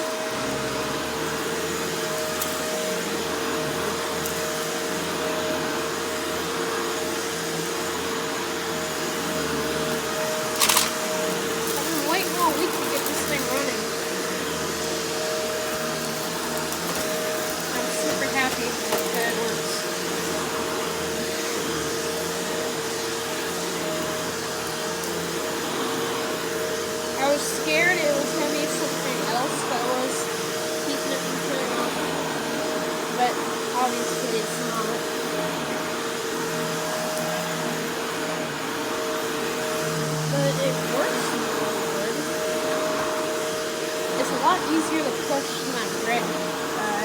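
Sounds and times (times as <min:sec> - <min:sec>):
vacuum cleaner running over carpet: 0:00.0 - 0:47.0.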